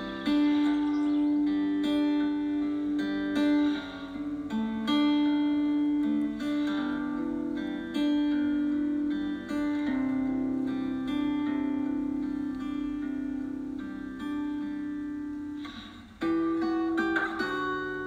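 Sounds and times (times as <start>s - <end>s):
acoustic guitar plucked notes: 0.0s - 18.0s.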